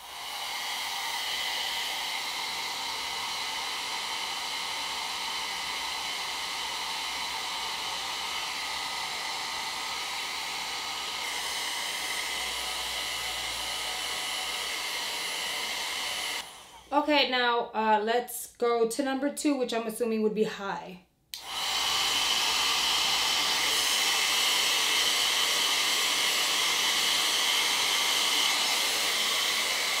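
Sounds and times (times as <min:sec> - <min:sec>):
hair dryer running: 0:00.0 - 0:17.7, 0:21.3 - 0:30.0.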